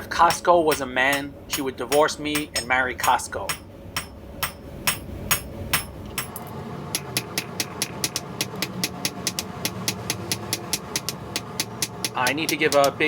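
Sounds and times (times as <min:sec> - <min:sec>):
hammer striking steel on anvil: 0:00.0 - 0:13.0.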